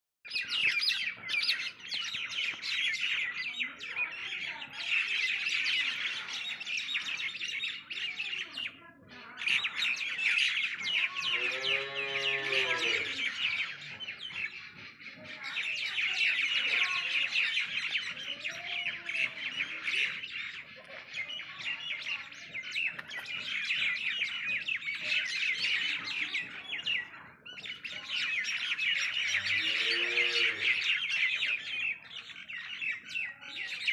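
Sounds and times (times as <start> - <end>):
flock of small birds chirping: 0.3 - 33.9.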